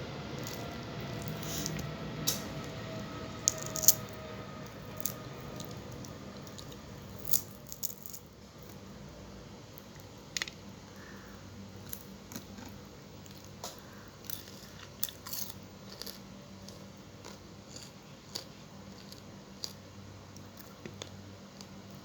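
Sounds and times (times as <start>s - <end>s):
faint low hum: 0.0s - 22.0s
crunchy chewing: 0.4s - 2.4s, 3.4s - 8.9s, 11.8s - 22.0s.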